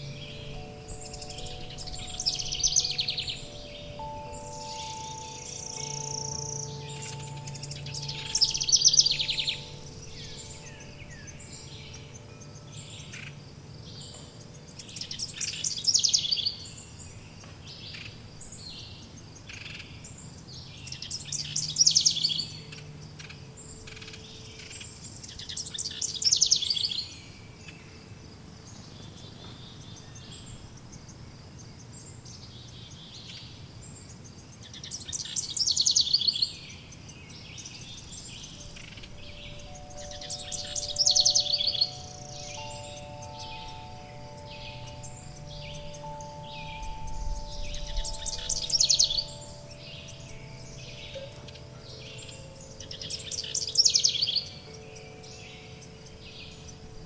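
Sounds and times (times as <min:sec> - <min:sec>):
low wind chime tones: 0:00.0 - 0:27.3, 0:34.1 - 0:57.0
thin high bird chirping: 0:00.0 - 0:27.3, 0:28.8 - 0:57.0.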